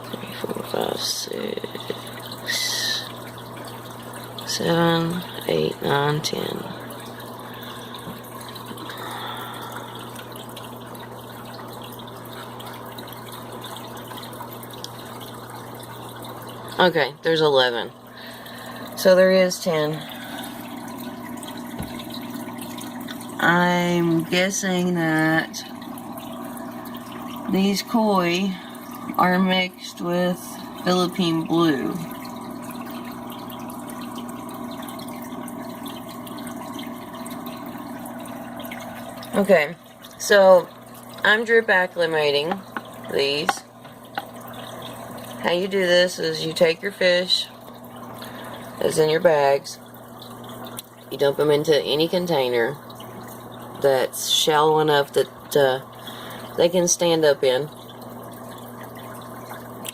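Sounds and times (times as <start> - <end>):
aquarium water trickling: 0.0 - 59.9
low equipment hum: 0.0 - 59.9.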